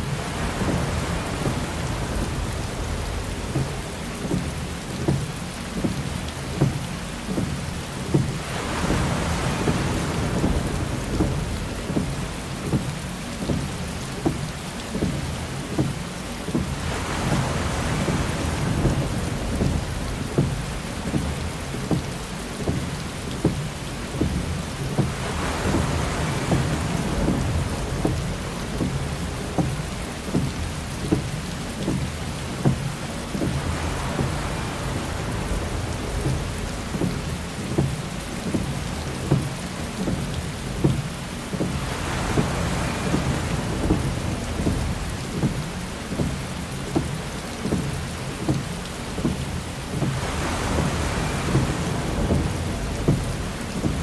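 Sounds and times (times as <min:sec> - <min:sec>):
heavy rain drumming on car: 0:00.0 - 0:54.0
windshield wiper sweeping: 0:00.0 - 0:54.0.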